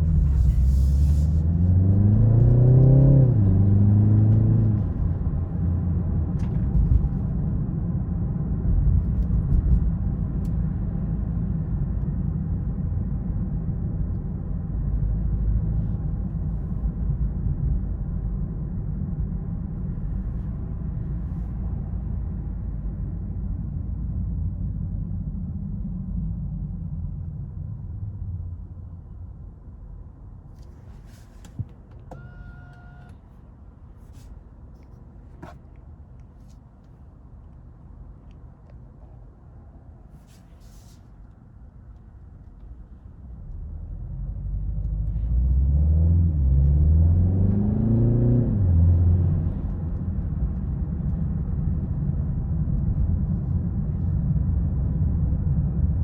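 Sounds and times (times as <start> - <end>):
car engine rumble and road noise: 0.0 - 56.0.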